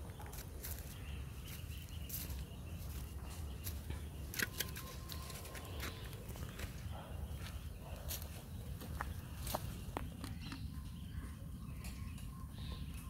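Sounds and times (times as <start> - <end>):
footsteps in undergrowth: 0.0 - 10.7.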